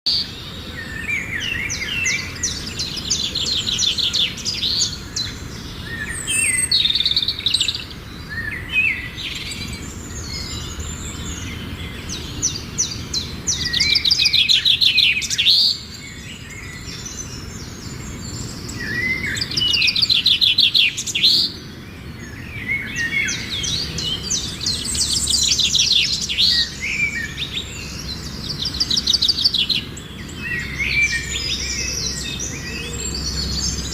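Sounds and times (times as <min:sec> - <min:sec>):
songbird trilling and chirping: 0:00.1 - 0:33.9.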